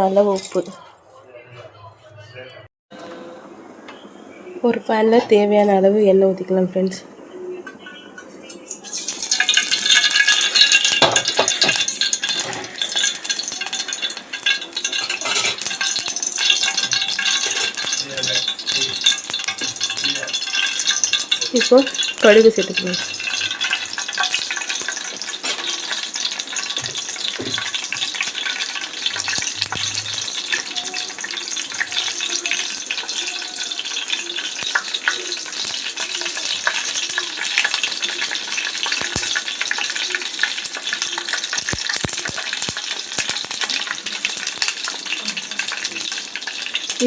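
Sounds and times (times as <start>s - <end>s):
seeds crackling and popping: 8.2s - 47.0s
seeds sizzling in hot oil: 8.2s - 47.0s.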